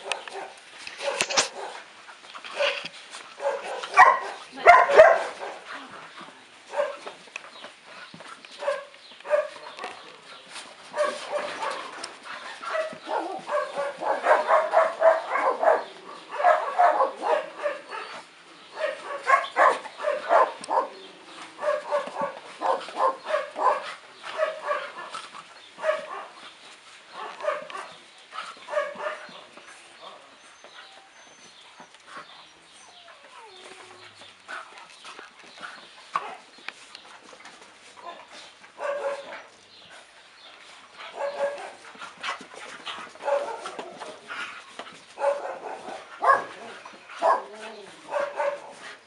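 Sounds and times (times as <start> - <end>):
young dogs barking and yipping: 0.0 - 49.0.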